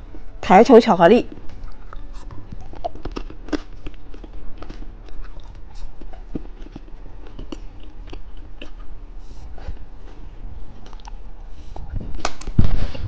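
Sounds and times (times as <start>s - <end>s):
person chewing candy: 1.4s - 12.6s.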